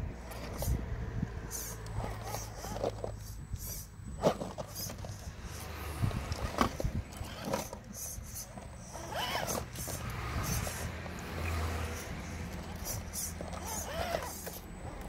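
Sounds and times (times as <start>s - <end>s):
electric motor whining: 0.2s - 15.0s.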